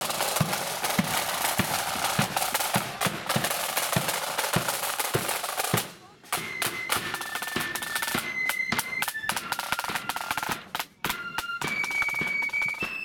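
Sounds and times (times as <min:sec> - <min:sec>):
snare drums playing: 0:00.0 - 0:13.0.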